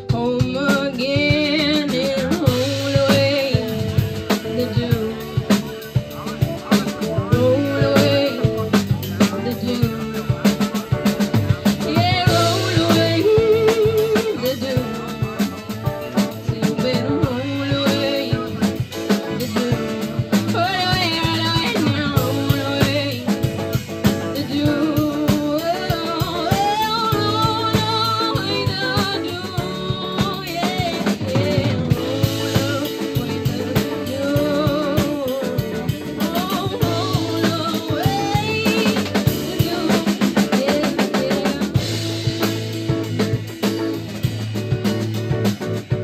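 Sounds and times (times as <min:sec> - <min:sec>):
drum kit beat: 0:00.0 - 0:46.0
jazz band playing: 0:00.0 - 0:46.0.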